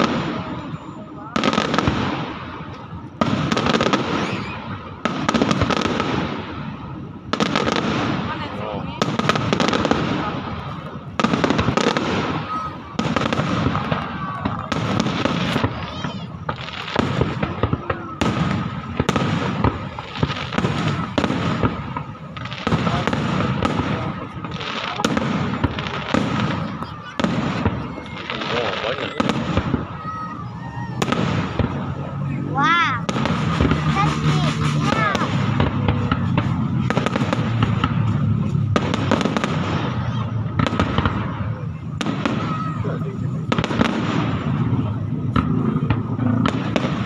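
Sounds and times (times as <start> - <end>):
fireworks bangs: 0.0 - 47.0
fireworks crackle and rumble: 0.0 - 47.0.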